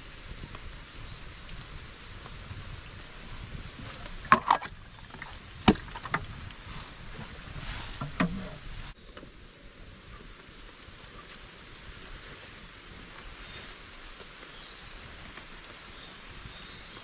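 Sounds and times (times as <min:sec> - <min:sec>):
steady rain: 0:00.0 - 0:04.4, 0:06.3 - 0:17.0
wood fire burning: 0:00.0 - 0:17.0.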